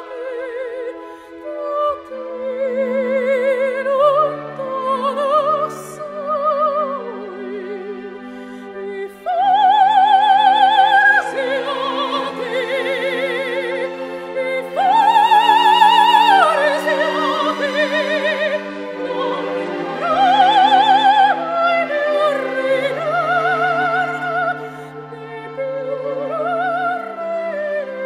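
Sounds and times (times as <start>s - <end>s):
orchestral accompaniment: 0.0s - 28.0s.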